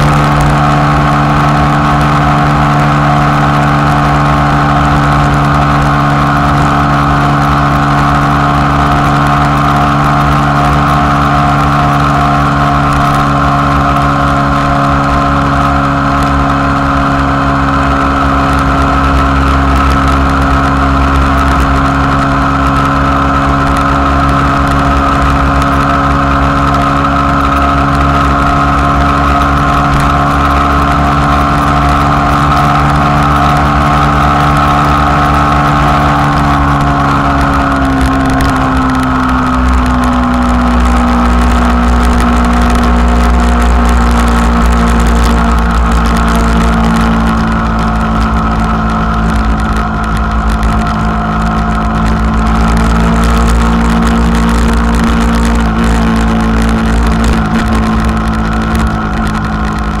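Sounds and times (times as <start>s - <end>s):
motorcycle engine cruising: 0.0s - 60.0s
wind rumble on microphone: 0.0s - 60.0s.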